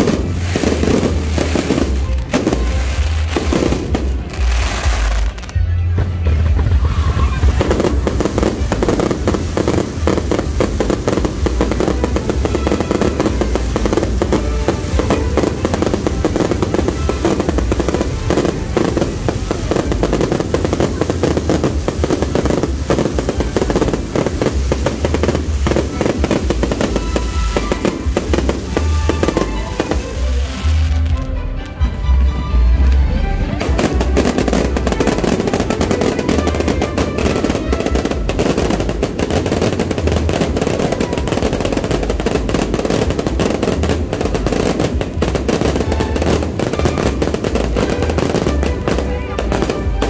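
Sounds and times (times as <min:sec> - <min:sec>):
fireworks low booms: 0:00.0 - 0:31.2, 0:33.6 - 0:50.0
fireworks crackling: 0:00.0 - 0:31.8, 0:32.6 - 0:50.0.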